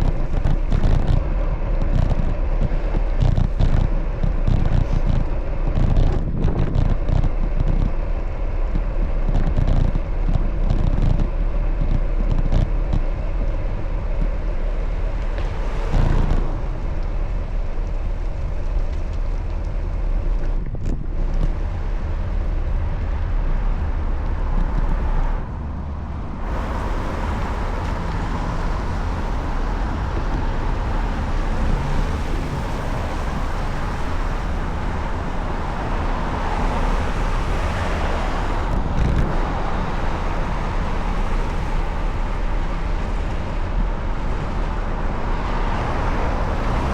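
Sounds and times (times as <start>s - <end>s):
street traffic: 0.0s - 46.9s
wind rumbling on microphone: 0.0s - 46.9s.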